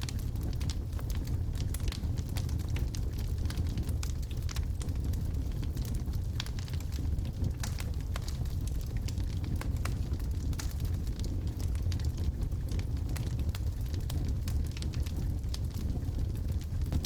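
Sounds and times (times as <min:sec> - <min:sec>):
wood logs burning: 0:00.0 - 0:17.0.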